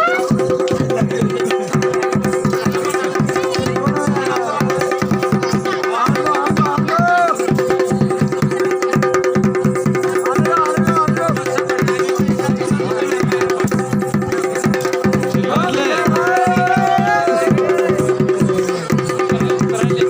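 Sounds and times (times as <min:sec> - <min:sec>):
fast steady drumming: 0:00.0 - 0:20.0.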